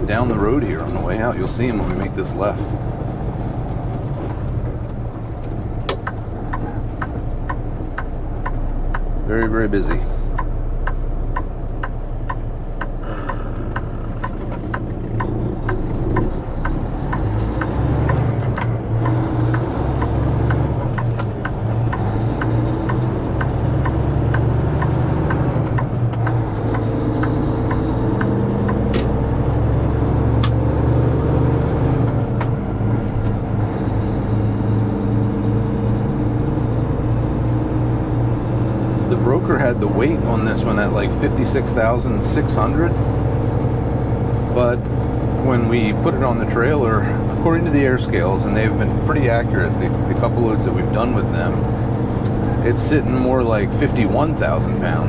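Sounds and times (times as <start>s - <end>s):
truck engine under load: 0.0s - 55.0s
turn signal ticking: 0.0s - 55.0s.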